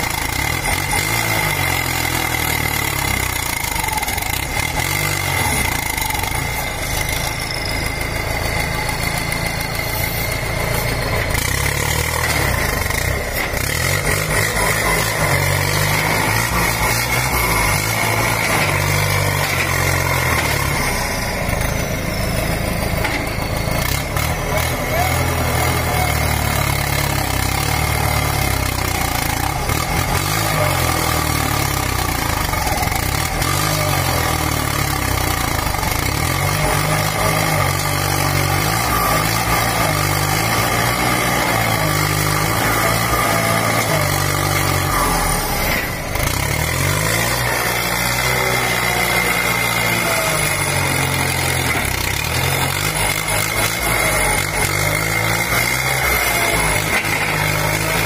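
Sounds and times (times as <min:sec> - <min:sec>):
tractor diesel engine revving: 0:00.0 - 0:58.0.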